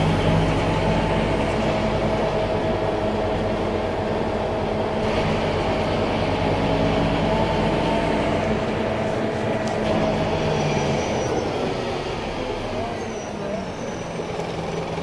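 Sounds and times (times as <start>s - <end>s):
bus engine drone: 0.0s - 15.0s
high drivetrain whine: 0.0s - 15.0s.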